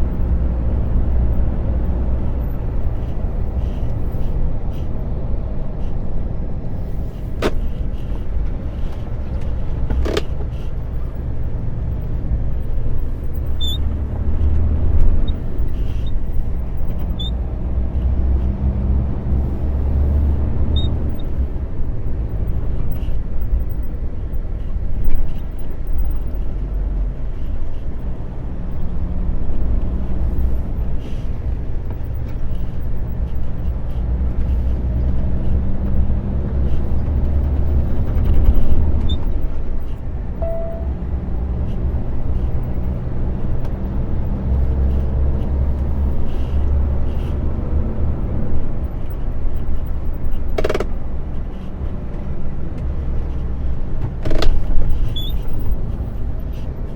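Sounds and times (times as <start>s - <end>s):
truck engine drone: 0.0s - 56.9s.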